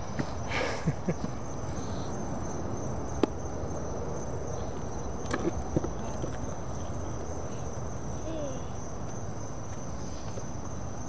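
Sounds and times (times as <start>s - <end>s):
crickets trilling: 0.0s - 11.0s
low outdoor rumble: 0.0s - 11.0s.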